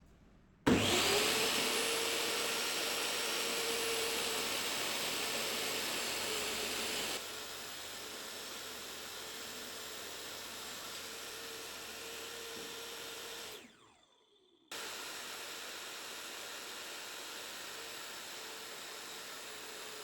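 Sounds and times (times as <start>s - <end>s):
power tool motor running: 0.7s - 20.0s.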